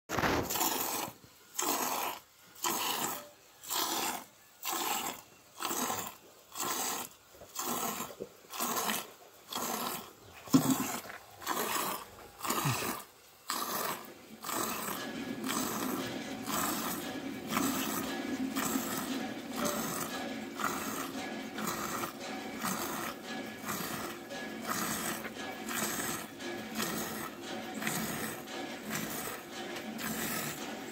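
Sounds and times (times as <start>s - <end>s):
milk squirting into steel cup: 0.2s - 30.9s.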